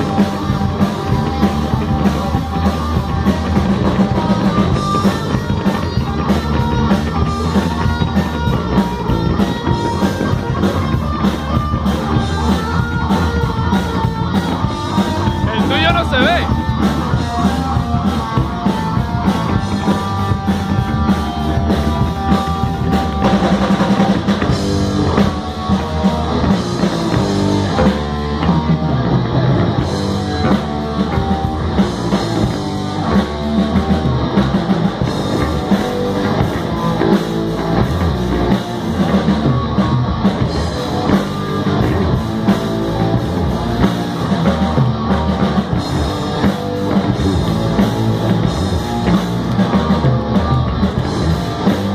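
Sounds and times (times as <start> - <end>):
distorted electric guitars: 0.0 - 51.9
drum kit: 0.0 - 51.9.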